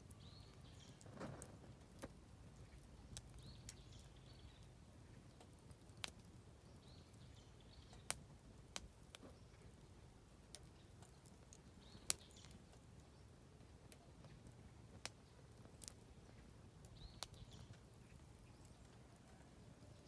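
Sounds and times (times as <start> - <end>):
campfire crackling and popping: 0.0 - 20.0
faint birdsong chirps: 0.0 - 20.0.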